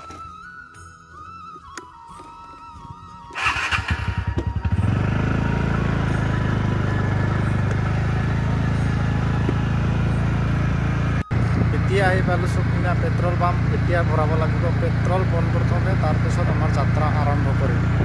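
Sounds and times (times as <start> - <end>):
scooter engine starting and running: 3.2 - 18.0.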